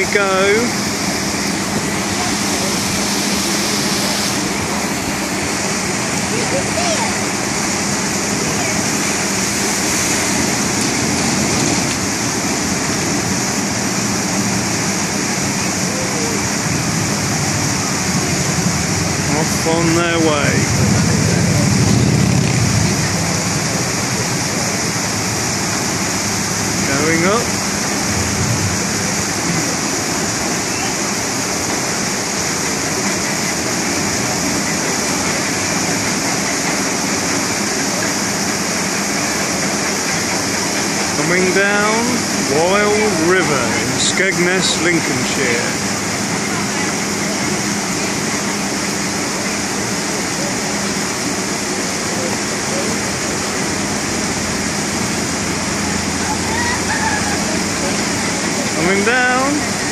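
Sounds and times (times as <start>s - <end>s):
water rushing and splashing: 0.0s - 59.9s.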